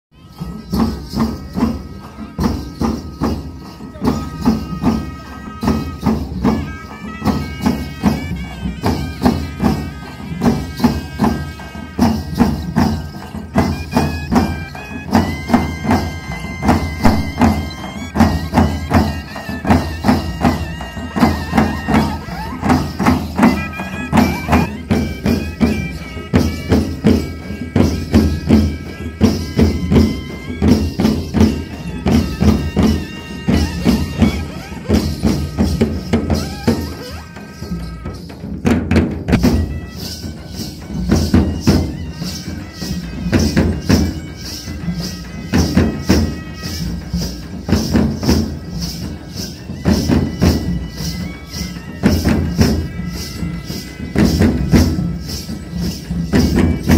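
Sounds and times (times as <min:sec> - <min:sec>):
drums beating a rhythm: 0:00.1 - 0:56.9
wind instrument melody: 0:00.1 - 0:56.9.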